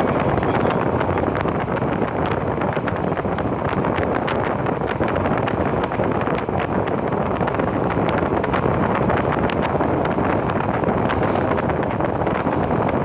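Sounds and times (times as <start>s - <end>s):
train rumble from inside carriage: 0.0s - 13.0s
wheels clicking and rattling: 0.0s - 13.0s.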